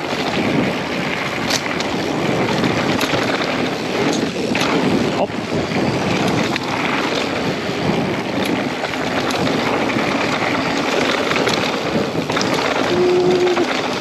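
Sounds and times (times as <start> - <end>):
bike ticks and rattles: 0.0 - 14.0
mountain bike riding on dirt: 0.0 - 14.0
wind buffeting microphone: 0.0 - 14.0.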